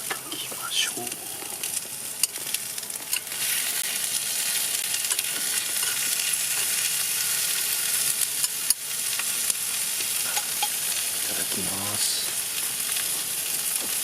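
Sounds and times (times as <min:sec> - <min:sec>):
food sizzling in a hot pan: 0:00.0 - 0:14.0.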